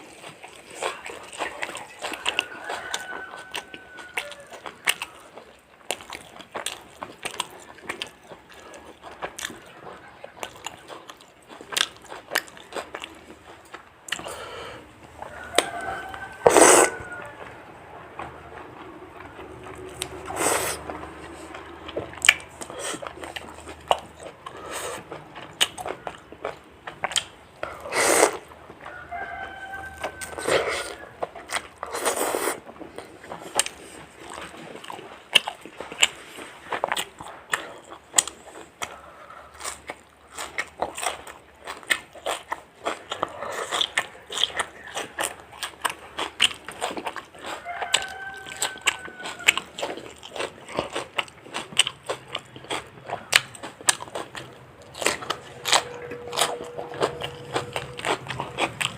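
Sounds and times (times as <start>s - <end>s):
crunching and chewing fried chicken: 0.0s - 58.9s.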